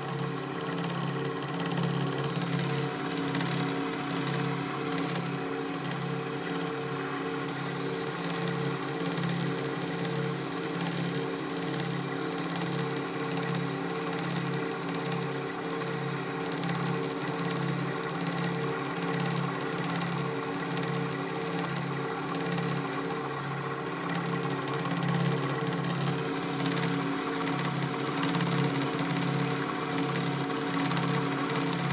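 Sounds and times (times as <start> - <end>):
metal lathe humming: 0.0 - 31.9.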